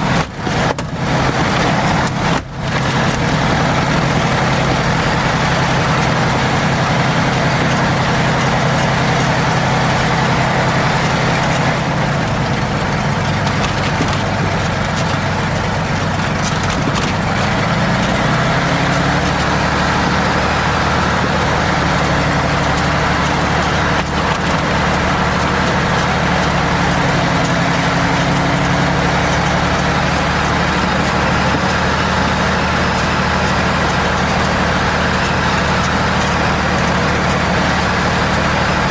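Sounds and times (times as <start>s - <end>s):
light aircraft piston engine: 0.0s - 38.9s.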